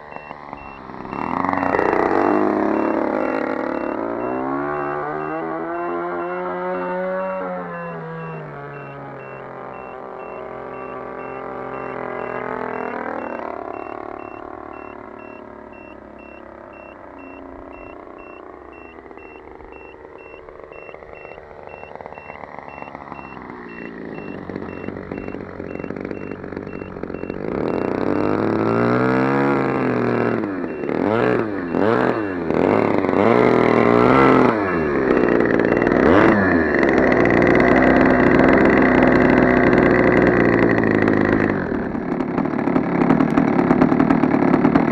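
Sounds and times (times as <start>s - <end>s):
model airplane engine: 0.0s - 44.9s.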